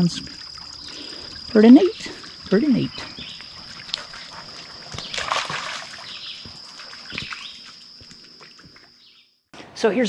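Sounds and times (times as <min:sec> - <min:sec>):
birds chirping: 0:00.0 - 0:09.4
creek water trickling: 0:00.0 - 0:09.4.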